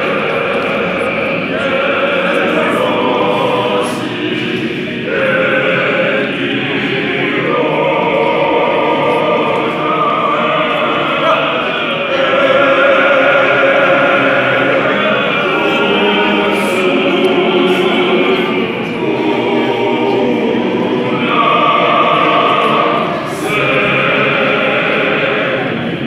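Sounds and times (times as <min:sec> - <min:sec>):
male choir singing in harmony: 0:00.0 - 0:26.0.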